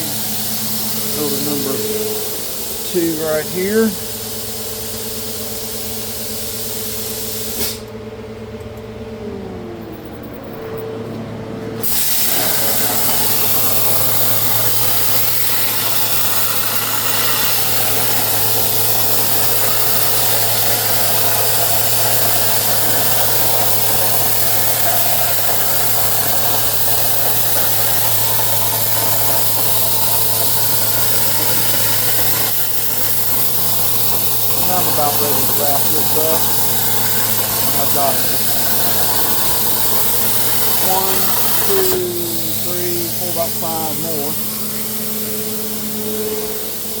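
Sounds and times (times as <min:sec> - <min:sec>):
plasma cutter hissing: 0:00.0 - 0:07.9, 0:11.8 - 0:47.0
constant low hum: 0:00.0 - 0:47.0.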